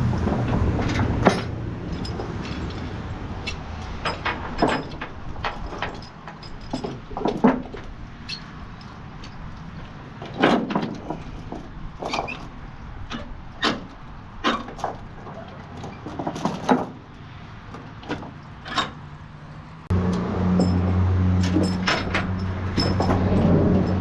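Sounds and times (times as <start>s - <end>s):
steel chains clanking: 0.6s - 17.1s, 20.5s - 24.0s.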